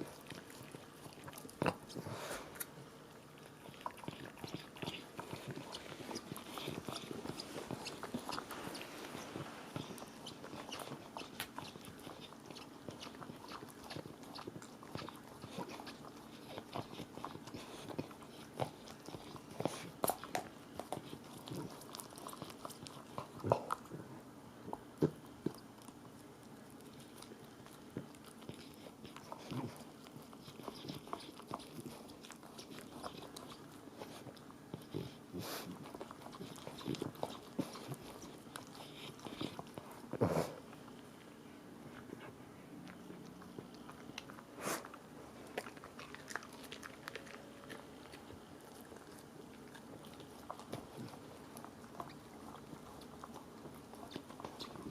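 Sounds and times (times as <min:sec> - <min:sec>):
dog chewing a toy: 0:00.0 - 0:41.2, 0:41.8 - 0:54.9.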